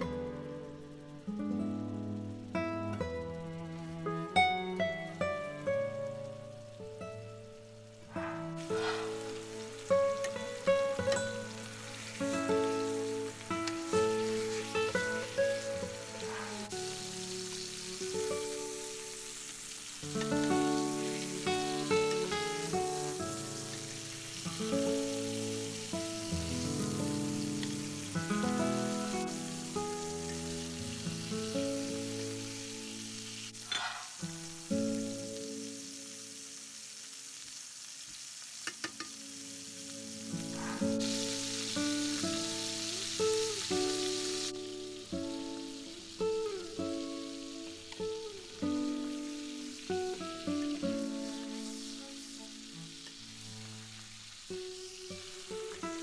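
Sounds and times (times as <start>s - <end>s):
background music with held notes: 0.0s - 33.6s, 39.1s - 53.8s
steaks sizzling in frying pan: 0.0s - 56.0s.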